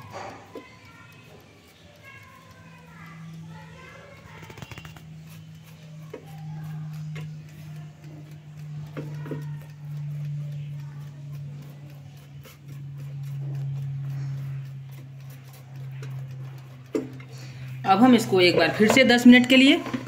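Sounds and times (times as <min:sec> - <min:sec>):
pastry brush tapping basket: 0:00.0 - 0:20.0.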